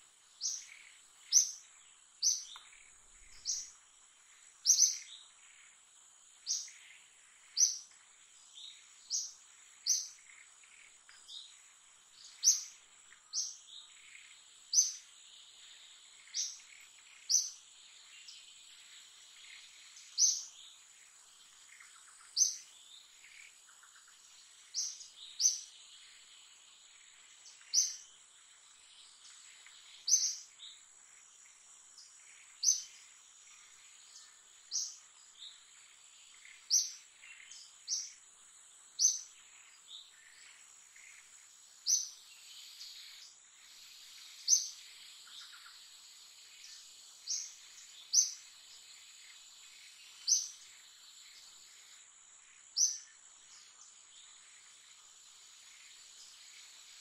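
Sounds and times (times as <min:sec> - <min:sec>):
bird chirping: 0:00.2 - 0:57.0.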